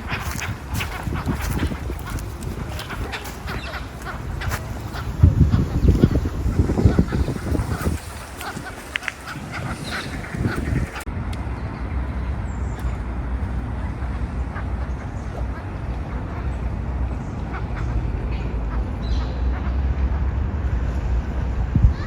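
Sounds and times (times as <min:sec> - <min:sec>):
street ambience: 0:00.0 - 0:22.0
wind rumbling on microphone: 0:00.0 - 0:22.0.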